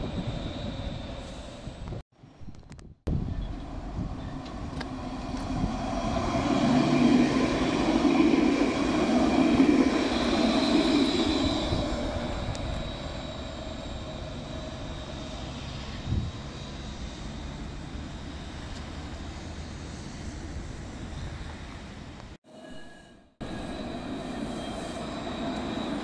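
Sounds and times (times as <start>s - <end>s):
tram passing with whine: 0.0s - 2.4s, 3.1s - 26.0s.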